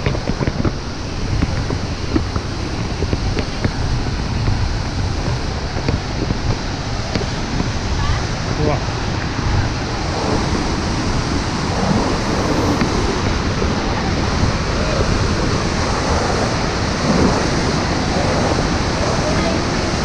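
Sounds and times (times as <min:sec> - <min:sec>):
waterfall roaring: 0:00.0 - 0:20.0
wind buffeting microphone: 0:00.0 - 0:20.0.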